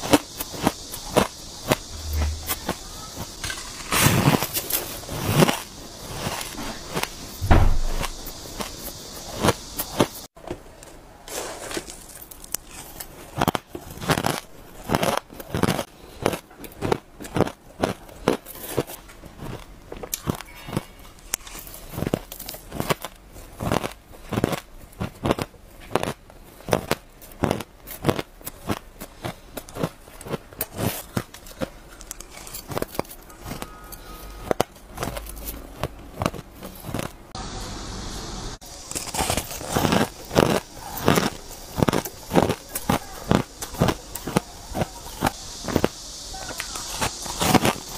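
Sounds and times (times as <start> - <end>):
chewing shaved ice crunches: 0.0 - 10.3, 11.3 - 37.3, 38.6 - 47.9.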